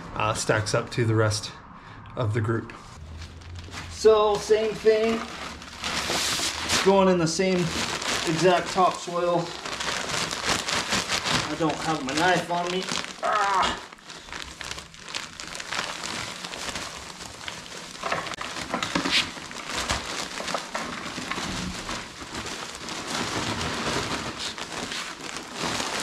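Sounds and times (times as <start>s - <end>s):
plastic bag crinkling: 3.0s - 26.0s.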